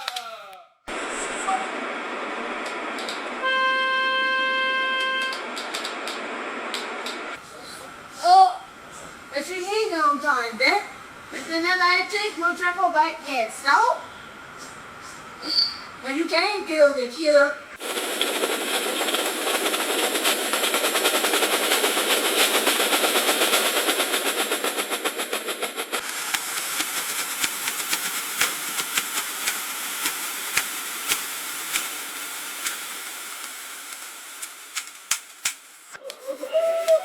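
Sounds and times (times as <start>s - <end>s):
kitchen hiss: 0.9s - 5.0s, 7.3s - 37.0s.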